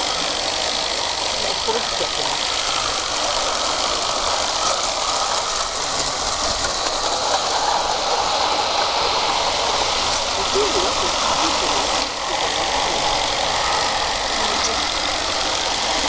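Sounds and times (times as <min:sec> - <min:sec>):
model steam locomotive hissing: 0:00.0 - 0:16.0.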